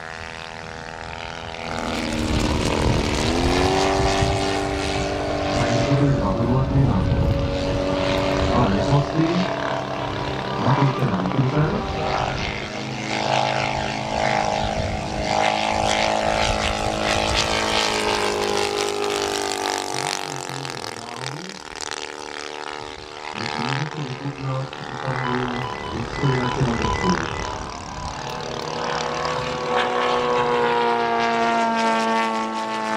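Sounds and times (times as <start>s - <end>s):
model plane engine running: 0.0s - 32.9s.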